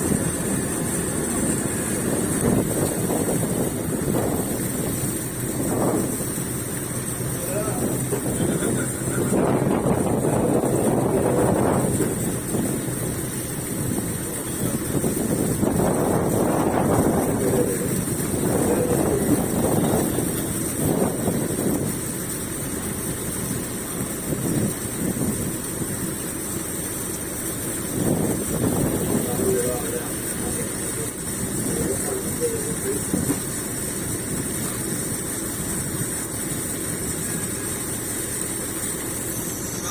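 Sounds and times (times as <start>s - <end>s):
boat engine humming: 0.0s - 39.9s
rushing water: 0.0s - 39.9s
wind buffeting microphone: 0.0s - 39.9s.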